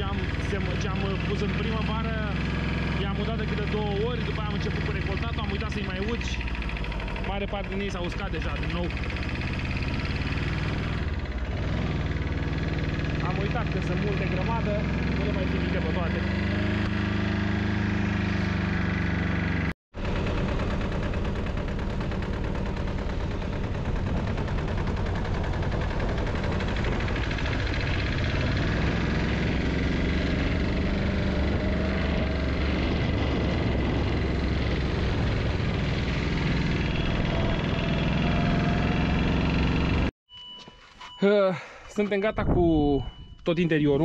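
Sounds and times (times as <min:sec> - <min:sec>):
vehicle engine running: 0:00.0 - 0:40.1.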